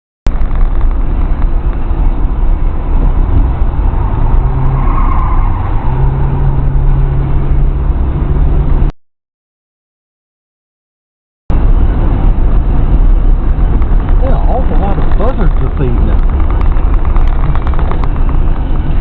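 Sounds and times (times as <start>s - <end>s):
car engine running: 0.3s - 8.9s, 11.5s - 19.0s
road and tyre noise: 0.3s - 9.0s, 11.5s - 19.0s.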